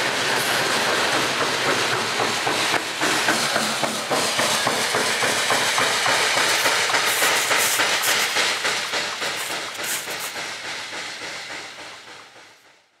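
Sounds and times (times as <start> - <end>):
freight train wheels clattering: 0.0 - 13.0
high rushing hiss: 0.1 - 12.5.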